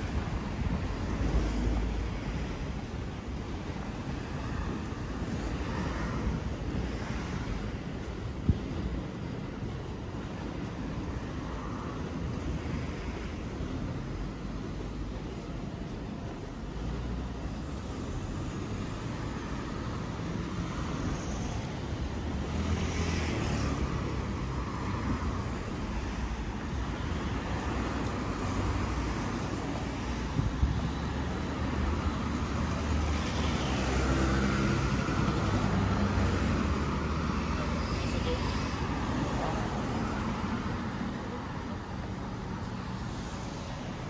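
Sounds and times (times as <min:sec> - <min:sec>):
cars passing by: 0:00.0 - 0:44.0
low rumble of traffic: 0:00.0 - 0:44.0.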